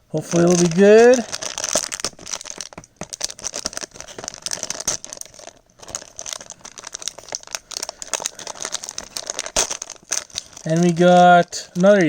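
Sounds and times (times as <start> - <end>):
plastic wrapper crinkling: 0.1 - 12.0.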